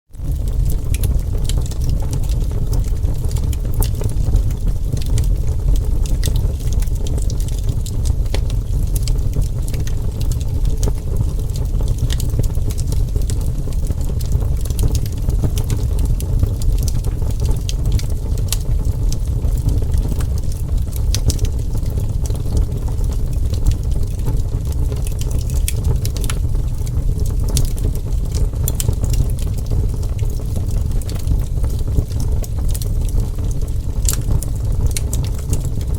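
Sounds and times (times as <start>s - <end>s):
burning wood crackling and popping: 0.1s - 35.9s
low roar of fire: 0.1s - 35.9s.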